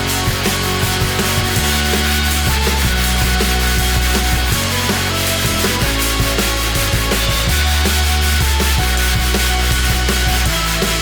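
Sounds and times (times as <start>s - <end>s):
rock music with heavy bass: 0.0s - 11.0s.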